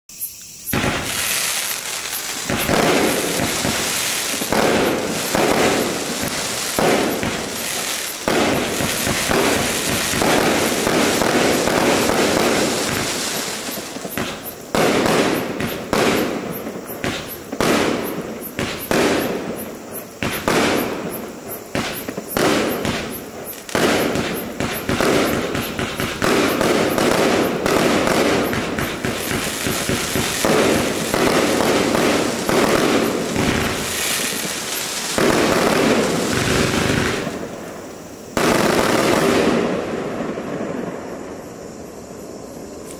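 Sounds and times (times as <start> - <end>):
fireworks launching and bursting: 0.1 - 41.8.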